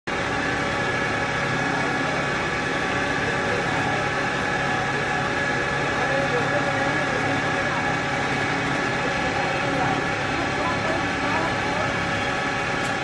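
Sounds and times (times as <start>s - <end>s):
grinding mill running: 0.1s - 13.0s.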